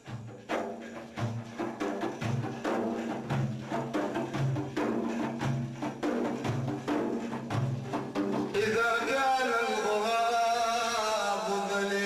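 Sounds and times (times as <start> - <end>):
drums beating steady rhythm: 0.0 - 9.8.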